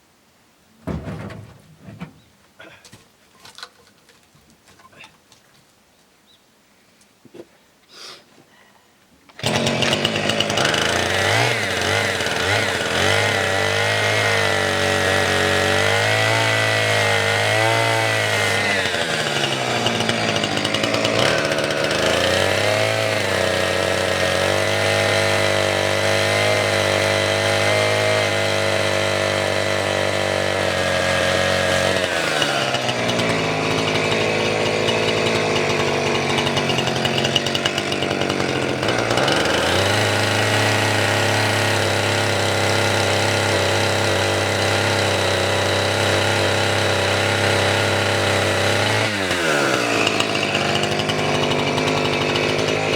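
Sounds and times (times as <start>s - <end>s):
chainsaw cutting wood: 9.3s - 52.9s.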